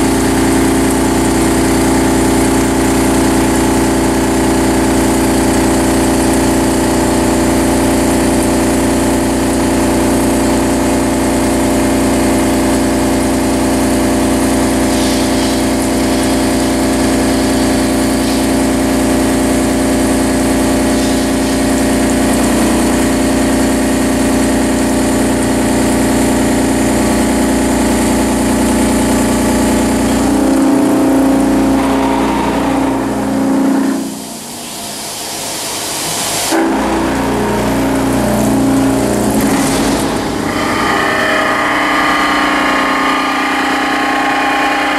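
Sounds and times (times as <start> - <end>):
milling machine cutting metal: 0.0 - 44.9.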